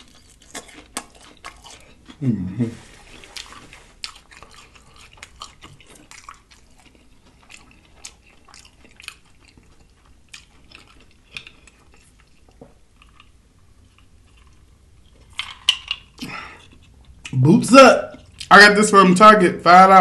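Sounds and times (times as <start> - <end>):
chewing fried fish: 0.0 - 18.6.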